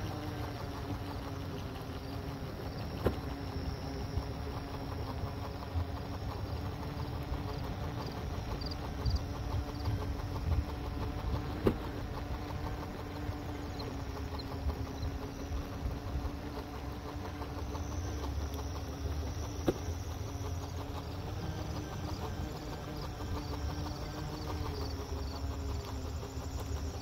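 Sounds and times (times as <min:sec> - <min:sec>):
hoverboard motor hum: 0:00.0 - 0:27.0.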